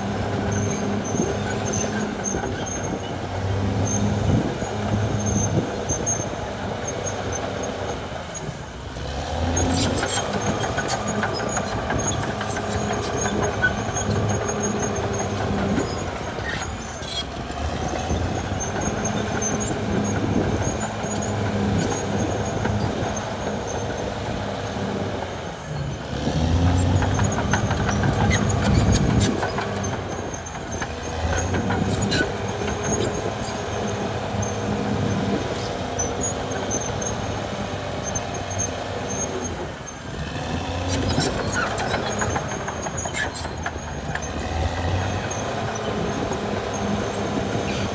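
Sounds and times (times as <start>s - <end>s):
bulldozer diesel engine under load: 0.0s - 47.9s.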